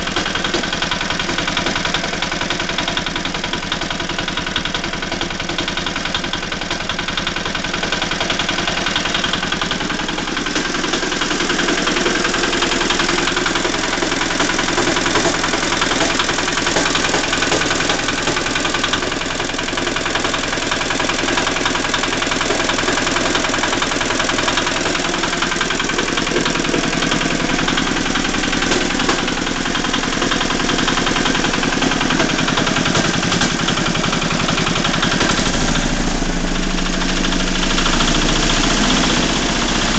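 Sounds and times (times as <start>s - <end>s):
tractor engine knocking: 0.0s - 39.9s.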